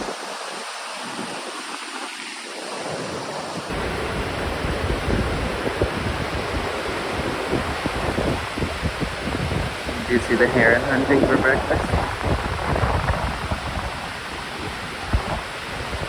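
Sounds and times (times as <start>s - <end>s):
gusting low wind rumble: 0.0s - 0.2s, 2.7s - 16.0s
wind hiss on microphone: 0.0s - 16.0s.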